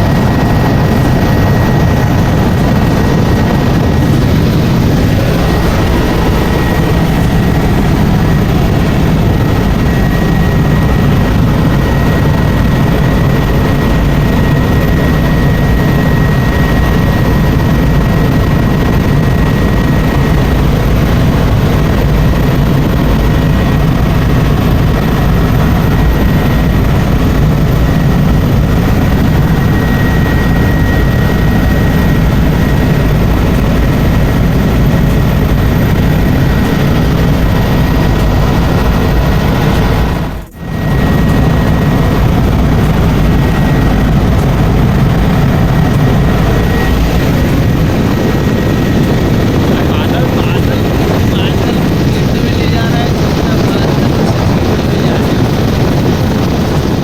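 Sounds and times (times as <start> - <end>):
helicopter engine and rotor: 0.0 - 57.0
high whine: 0.0 - 57.0.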